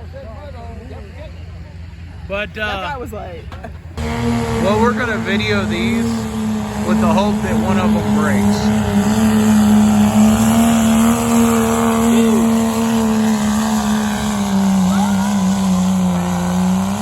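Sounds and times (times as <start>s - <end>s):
engine running under load: 0.0s - 17.0s.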